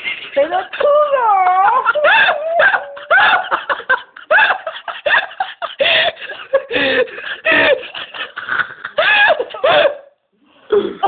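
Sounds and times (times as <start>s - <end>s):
person laughing hard: 0.5s - 10.1s.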